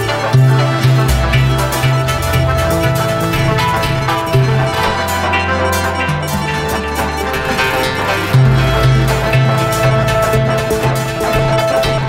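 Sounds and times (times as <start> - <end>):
music with a steady beat: 0.0 - 12.0
percussion: 0.0 - 12.0
repeating bass note: 0.0 - 12.0.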